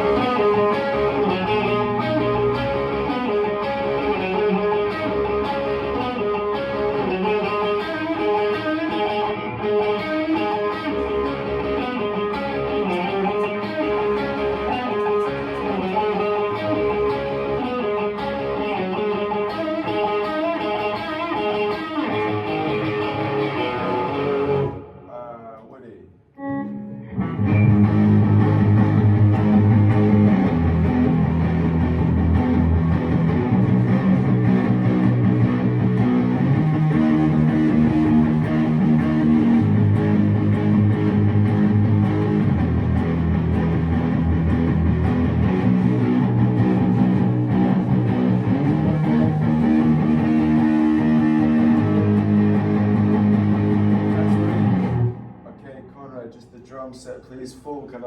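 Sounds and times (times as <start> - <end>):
guitar chords: 0.0 - 25.2, 26.4 - 55.8.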